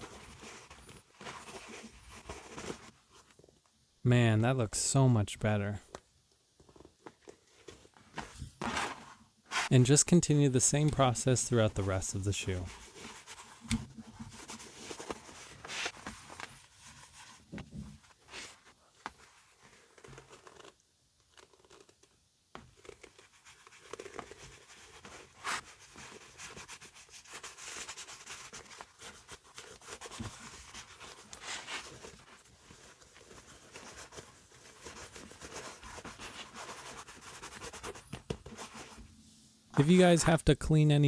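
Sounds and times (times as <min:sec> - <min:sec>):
cloth rubbing leather shoe: 0:00.0 - 0:03.4, 0:06.6 - 0:40.1.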